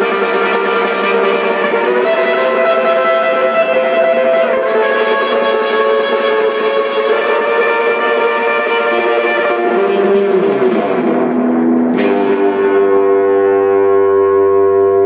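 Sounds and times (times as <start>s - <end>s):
electric guitar through amplifier: 0.0s - 15.0s.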